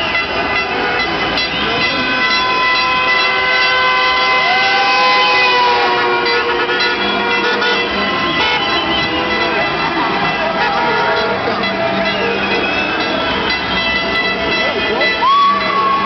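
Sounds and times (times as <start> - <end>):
car horns honking: 0.0 - 16.0.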